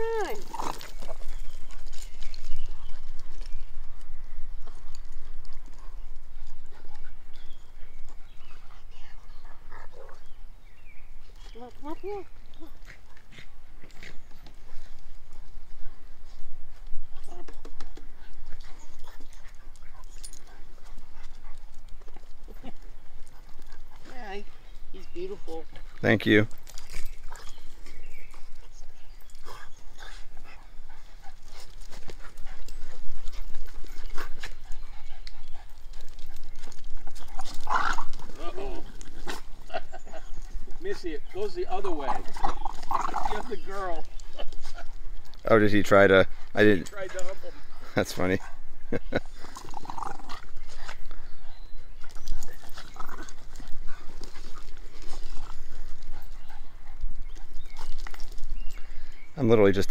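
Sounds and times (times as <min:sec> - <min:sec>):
dogs playing: 0:00.0 - 0:59.9.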